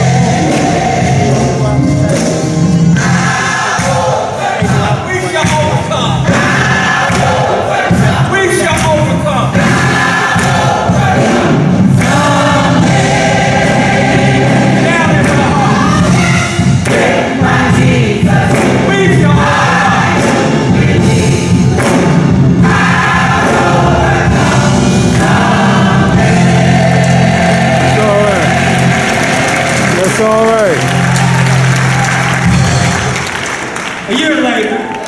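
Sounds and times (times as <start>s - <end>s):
choir singing a hymn: 0.0s - 30.2s
instrumental accompaniment: 0.0s - 35.0s.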